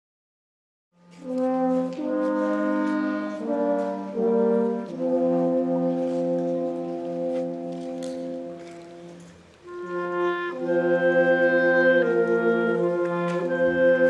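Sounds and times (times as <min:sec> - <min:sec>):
brass chorale: 0:01.0 - 0:14.0.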